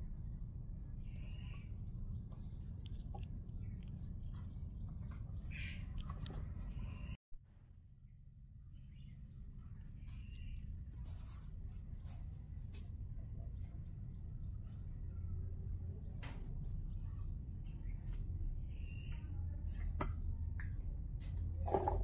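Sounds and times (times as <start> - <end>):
faint bird chirps: 0.1 - 7.2, 8.0 - 20.8.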